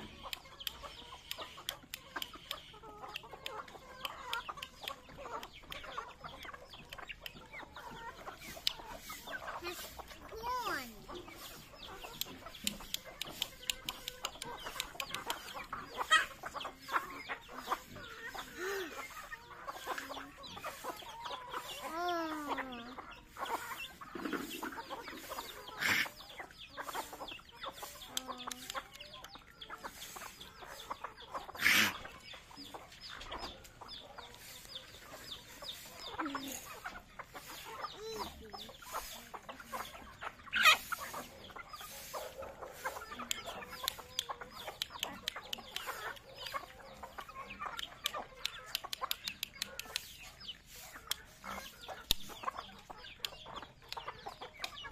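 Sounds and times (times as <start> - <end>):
beaks pecking grain off concrete: 0.0 - 54.9
chickens clucking: 0.0 - 54.9
loud chicken calls: 0.0 - 54.9.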